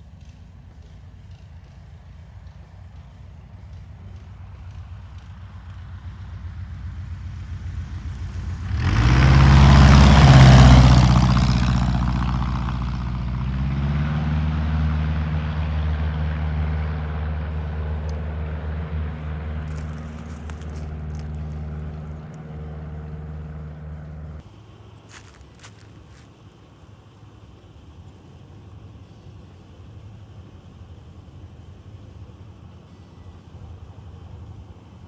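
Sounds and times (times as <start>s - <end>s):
light aircraft engine drone: 0.0s - 35.0s.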